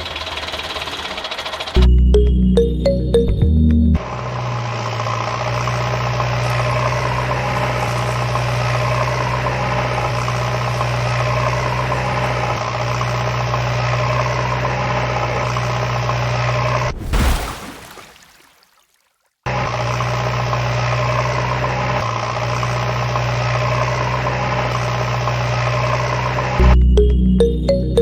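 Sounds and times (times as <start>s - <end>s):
engine idling: 0.0s - 3.3s, 4.0s - 16.9s, 19.5s - 27.5s.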